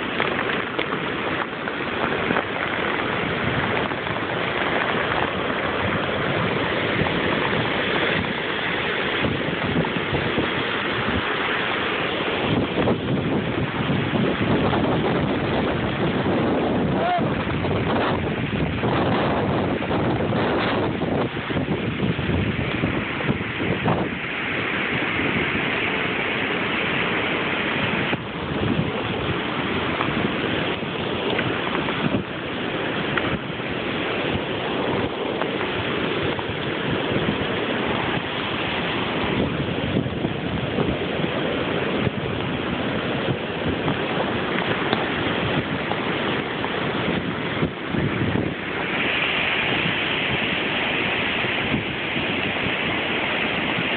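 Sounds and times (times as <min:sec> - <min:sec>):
heavy rain falling: 0:00.0 - 0:53.9
wind buffeting microphone: 0:00.0 - 0:53.9.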